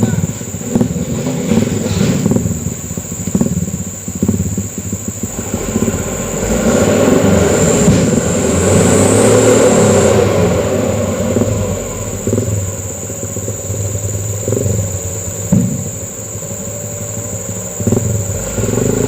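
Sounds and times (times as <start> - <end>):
diesel truck engine labouring: 0.0 - 19.0.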